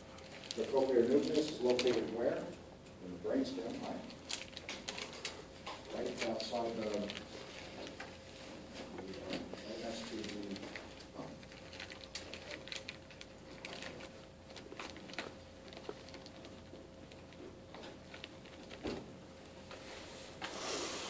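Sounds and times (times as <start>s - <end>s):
plastic bag crinkling: 0.0s - 2.6s, 3.3s - 18.9s
faint steady hum: 0.0s - 21.0s.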